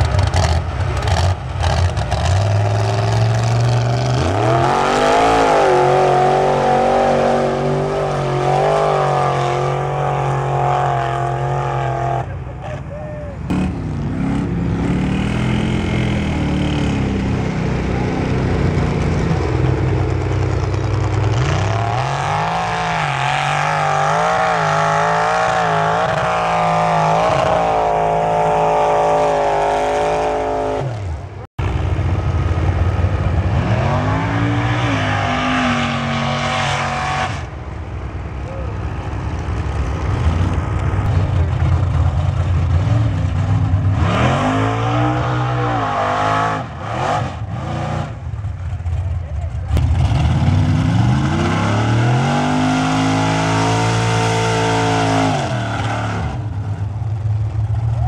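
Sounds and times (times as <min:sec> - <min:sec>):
truck engines revving hard: 0:00.0 - 0:58.0.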